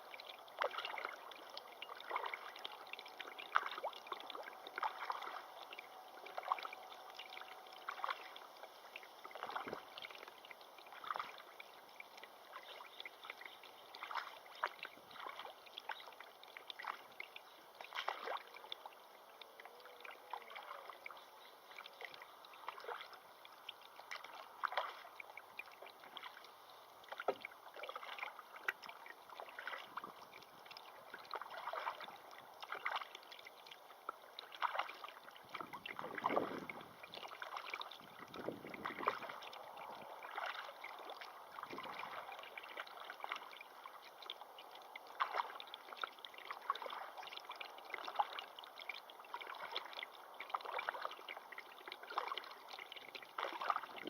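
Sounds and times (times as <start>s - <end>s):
river water splashing and gurgling: 0.0s - 54.0s.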